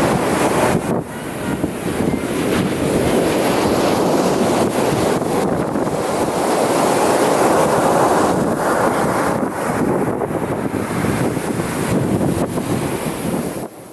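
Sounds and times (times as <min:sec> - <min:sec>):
ocean surf rushing: 0:00.0 - 0:13.9
wind buffeting microphone: 0:00.0 - 0:13.9.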